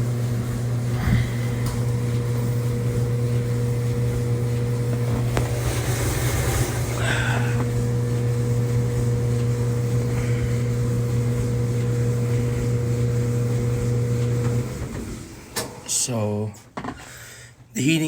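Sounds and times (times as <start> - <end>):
clothes dryer humming: 0.0 - 18.0.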